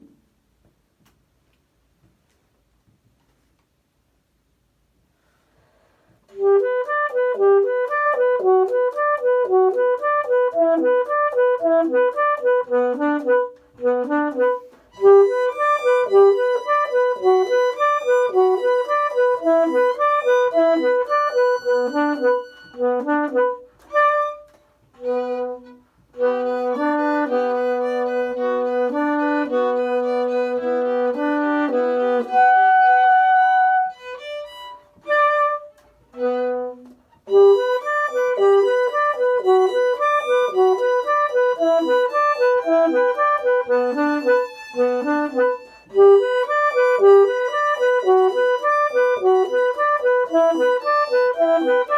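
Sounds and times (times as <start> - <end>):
violin and saxophone duo: 6.3 - 51.9.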